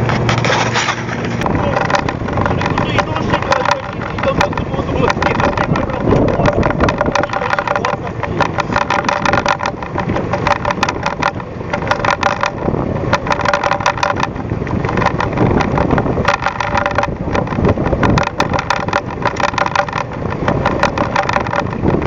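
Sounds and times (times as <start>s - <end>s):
boat engine running: 0.0s - 22.0s
water splashes: 0.0s - 22.0s.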